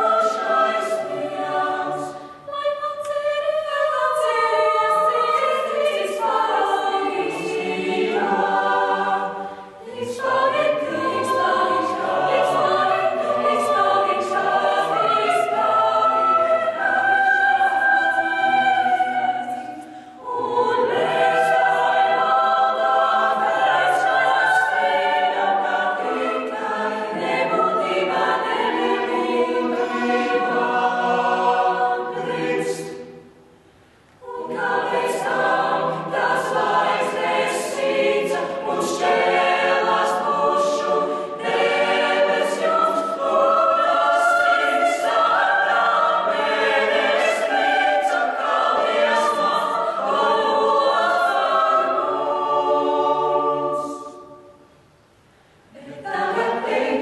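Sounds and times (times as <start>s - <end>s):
choir singing a cappella: 0.0s - 54.9s, 55.6s - 57.0s.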